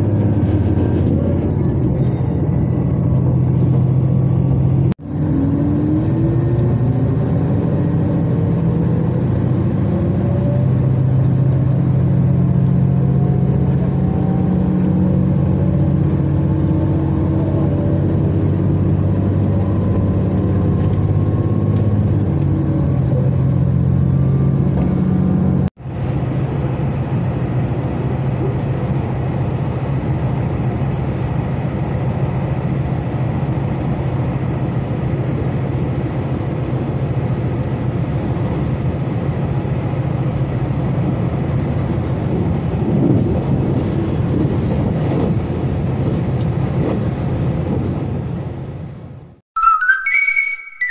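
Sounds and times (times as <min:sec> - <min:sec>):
train engine and drive whine: 0:00.0 - 0:49.4
train running rumble: 0:00.0 - 0:49.4.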